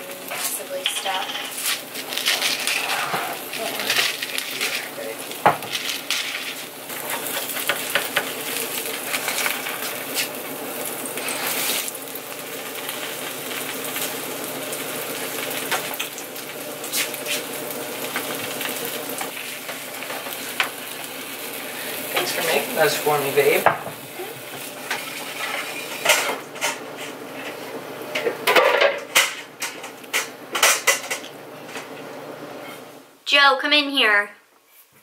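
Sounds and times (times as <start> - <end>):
eggs sizzling in a skillet: 0.0 - 31.6.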